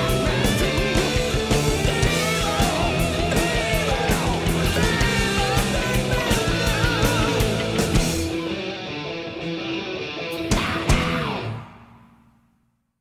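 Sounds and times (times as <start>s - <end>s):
rock music with steady beat: 0.0s - 12.3s.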